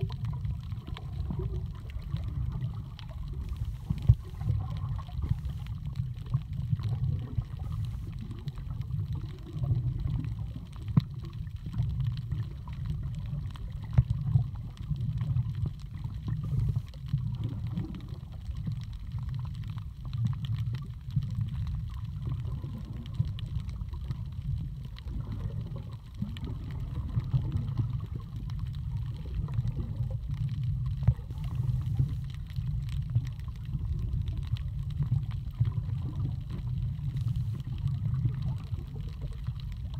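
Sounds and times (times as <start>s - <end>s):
faint clicks and crackles: 0.0s - 39.9s
muffled underwater rumble: 0.0s - 39.9s.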